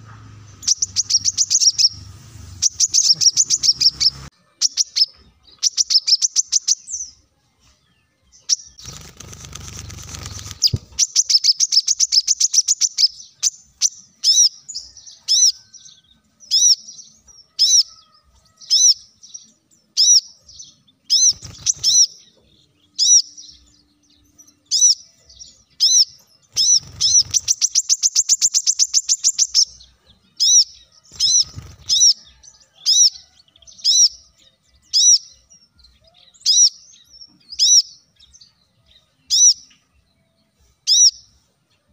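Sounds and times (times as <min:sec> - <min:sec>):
sunbird chirping and trilling: 0:00.0 - 0:07.2, 0:07.9 - 0:41.9.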